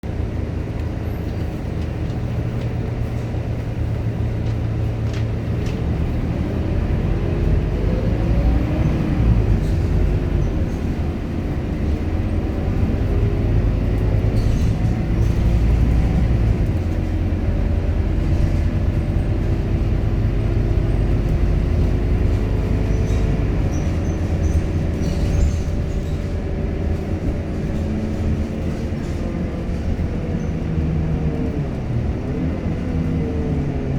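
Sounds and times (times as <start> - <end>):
bus diesel engine droning: 0.0 - 33.9.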